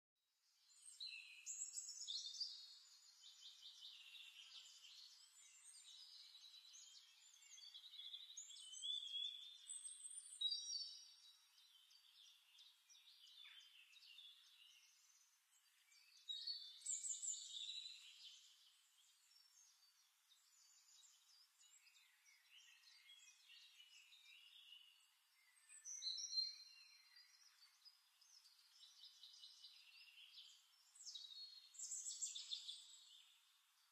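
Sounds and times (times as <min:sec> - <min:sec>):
songbirds chirping and warbling: 0:00.3 - 0:33.9.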